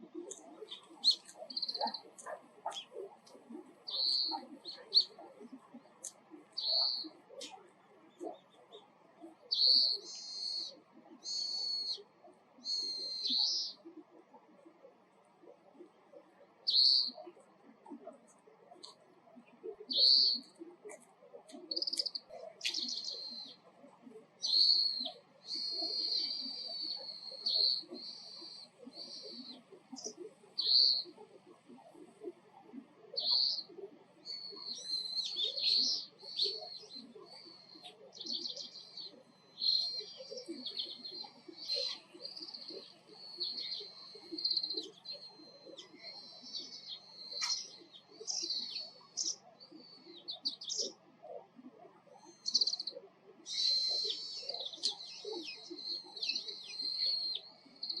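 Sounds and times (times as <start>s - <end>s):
finch twittering and trills: 0.0s - 58.0s.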